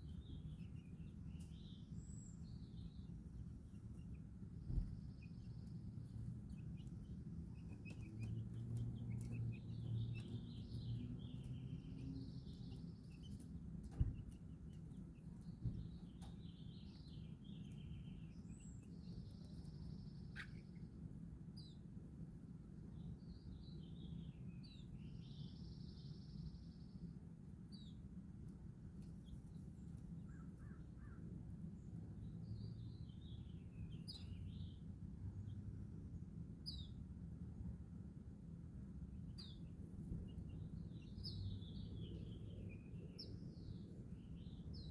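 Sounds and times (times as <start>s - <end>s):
low background rumble: 0.0s - 44.9s
small birds chirping and singing: 0.0s - 44.9s.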